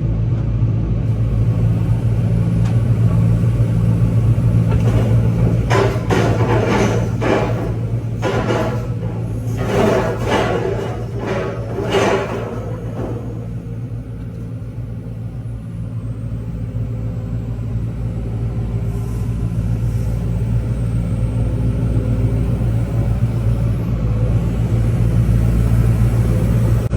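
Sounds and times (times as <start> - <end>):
heavy machinery engine rumbling: 0.2 - 26.9.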